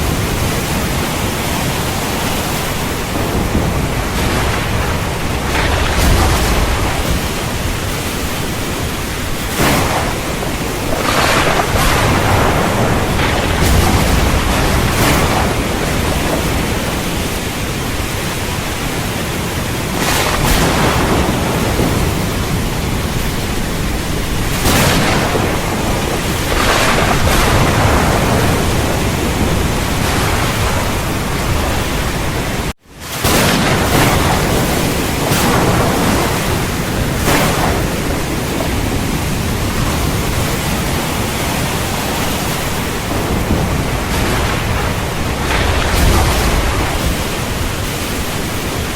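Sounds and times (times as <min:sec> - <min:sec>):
heavy rain: 0:00.0 - 0:48.9
thunder: 0:00.0 - 0:48.9.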